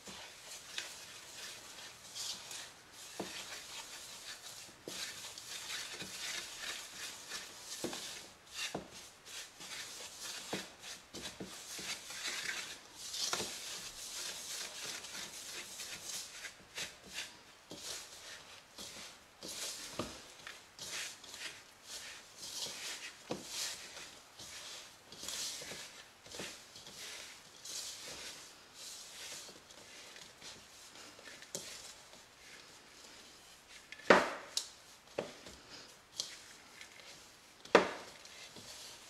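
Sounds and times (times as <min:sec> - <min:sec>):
hands rubbing crumbly dough: 0:00.0 - 0:39.0.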